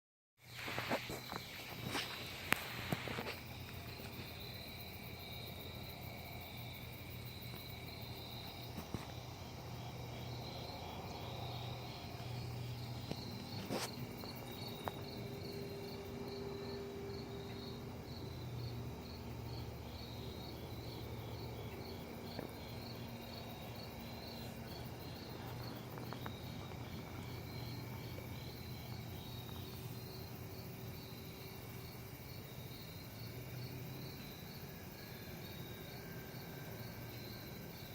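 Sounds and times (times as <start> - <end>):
crickets chirping: 0.4 - 37.9.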